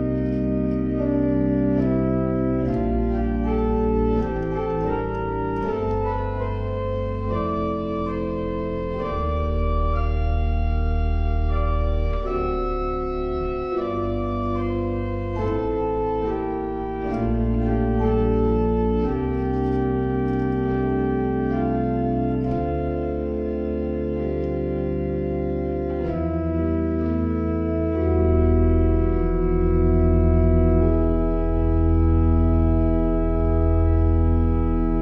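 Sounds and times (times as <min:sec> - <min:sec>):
pipe organ playing: 0:00.0 - 0:35.0.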